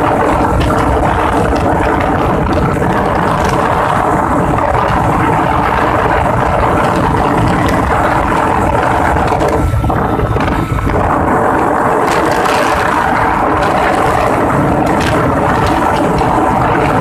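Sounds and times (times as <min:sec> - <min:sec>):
motorcycle engine at full throttle: 0:00.0 - 0:17.0
wind rushing on microphone: 0:00.0 - 0:17.0.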